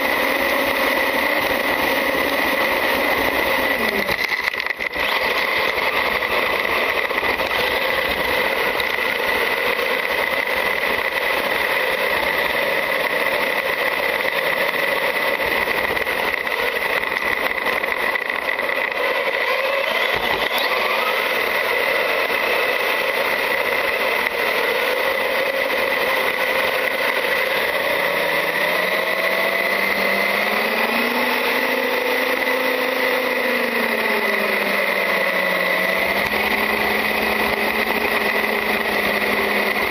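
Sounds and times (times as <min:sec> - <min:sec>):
electric motor high whine: 0:00.0 - 0:39.9.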